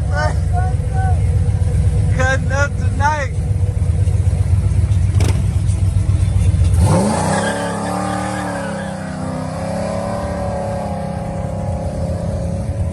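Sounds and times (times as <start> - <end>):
car exhaust rumbling: 0.0 - 12.9.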